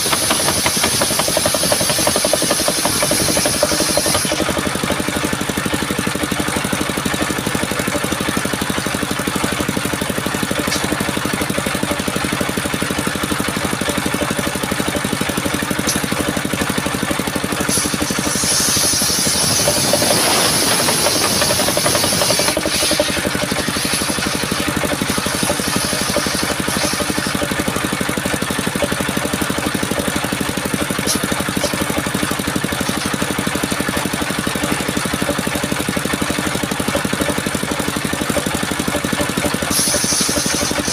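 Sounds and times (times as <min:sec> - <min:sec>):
saw blade cutting wood: 0:00.0 - 0:28.6, 0:30.7 - 0:35.7, 0:36.3 - 0:40.9
sawmill engine running: 0:00.0 - 0:40.9.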